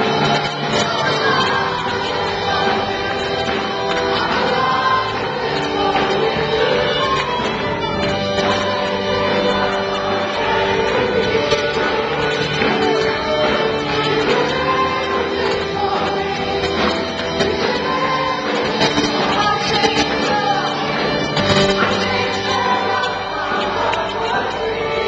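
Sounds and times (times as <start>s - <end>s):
sustained instrumental backing: 0.0s - 25.0s
women singing into microphones: 0.0s - 25.0s.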